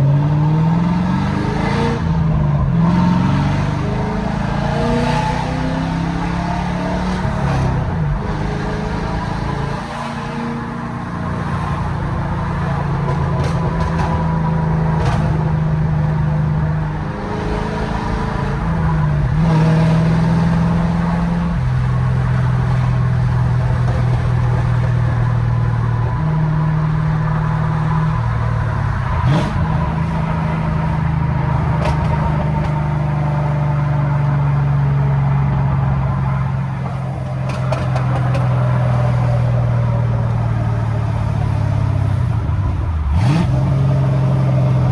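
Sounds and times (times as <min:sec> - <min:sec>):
car engine revving while driving: 0:00.0 - 0:44.9.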